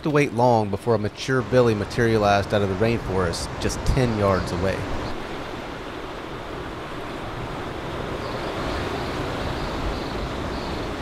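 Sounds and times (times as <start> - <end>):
waves crashing: 0.0 - 11.0.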